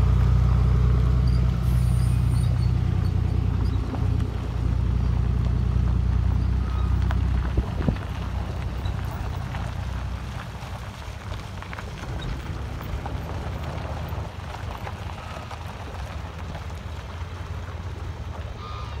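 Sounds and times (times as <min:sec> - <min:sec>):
ferry diesel rumble: 0:00.0 - 0:19.0
truck driving up gravel ramp: 0:00.0 - 0:19.0.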